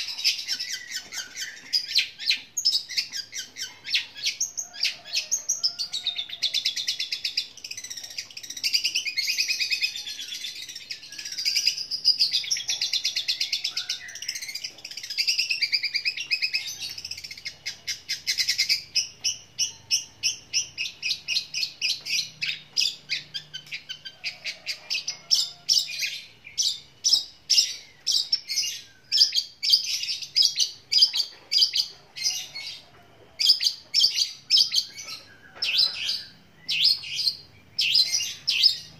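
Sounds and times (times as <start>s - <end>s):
bird chattering chirps: 0.0s - 38.9s.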